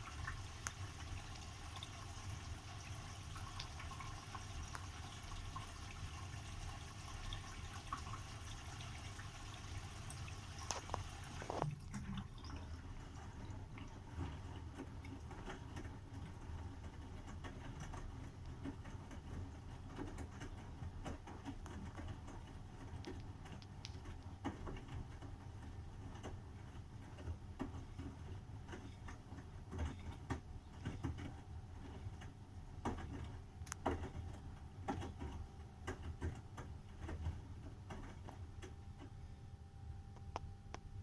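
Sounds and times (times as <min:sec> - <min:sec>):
washing machine clicks and knocks: 0:00.0 - 0:39.2
washing machine humming: 0:00.0 - 0:41.0.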